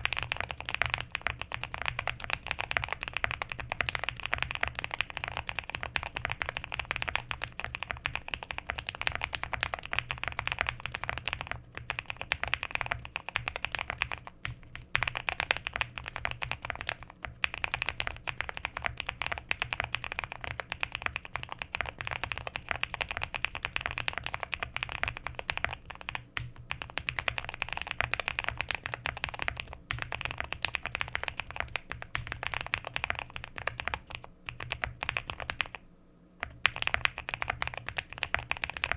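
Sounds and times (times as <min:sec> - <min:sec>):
mechanical keyboard typing: 0:00.0 - 0:35.8, 0:36.4 - 0:38.9.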